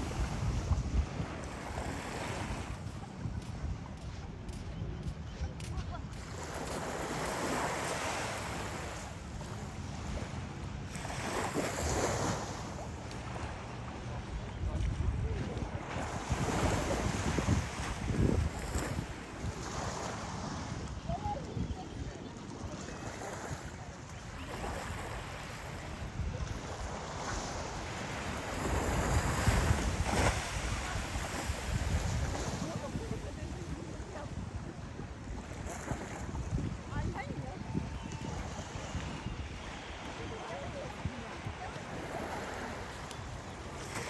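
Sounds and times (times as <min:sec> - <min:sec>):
sea waves breaking: 0:00.0 - 0:44.0
wind buffeting microphone: 0:00.0 - 0:44.0.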